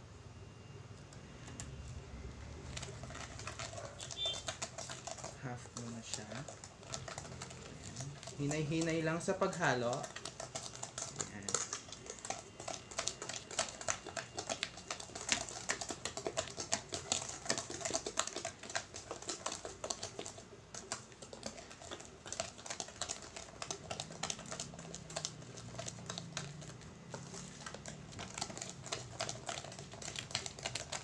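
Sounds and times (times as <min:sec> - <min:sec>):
whisk clicking and scraping in bowl: 0:02.5 - 0:31.0.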